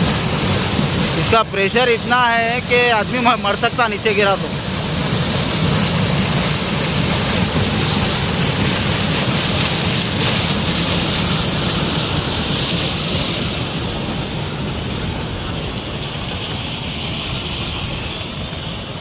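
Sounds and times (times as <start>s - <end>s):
water gushing down rocky channel: 0.0s - 19.0s.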